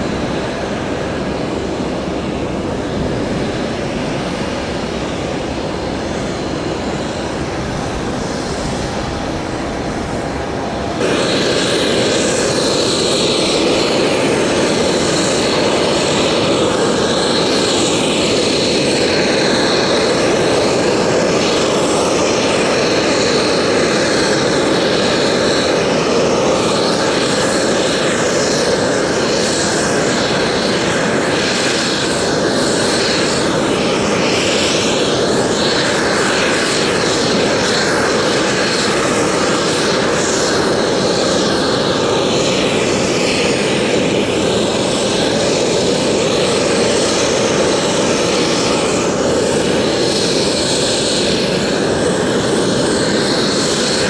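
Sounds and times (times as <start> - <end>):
high jet whine: 0.0 - 54.0
jet engines rushing: 0.0 - 54.0.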